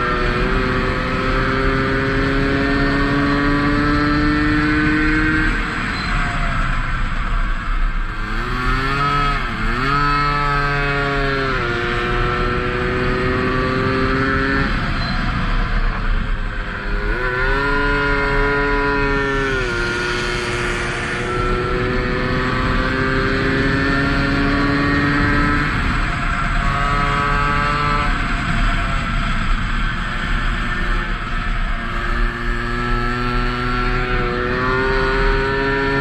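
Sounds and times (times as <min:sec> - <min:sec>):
moped engine running hard: 0:00.0 - 0:36.0.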